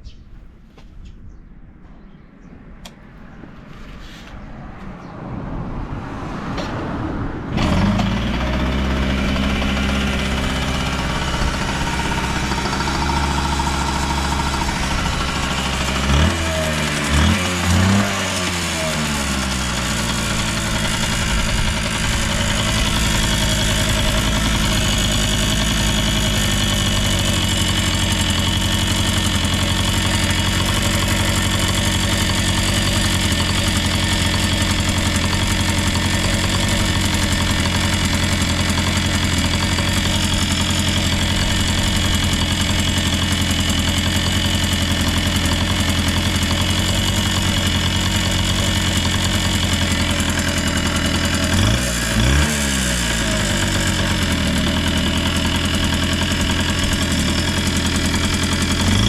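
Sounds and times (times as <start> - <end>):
engine revving: 6.0 - 59.0
two-stroke engine idling: 7.6 - 59.0.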